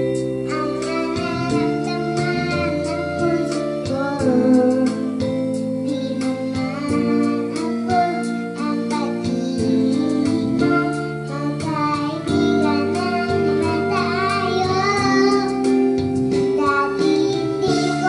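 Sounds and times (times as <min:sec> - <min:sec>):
backing music with steady beat: 0:00.0 - 0:18.0
girl singing into a microphone: 0:00.0 - 0:18.0.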